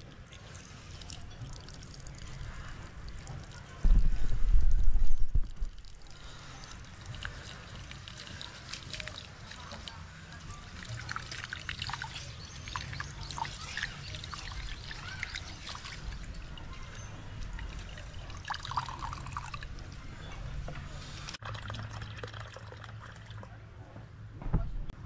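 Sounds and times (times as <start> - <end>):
water trickling and pouring: 0.0 - 4.4, 5.0 - 20.1, 21.3 - 23.5.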